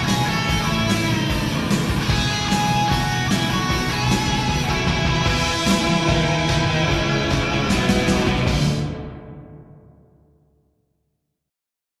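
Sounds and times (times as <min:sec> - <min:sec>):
rock chord ringing out: 0:00.0 - 0:10.3.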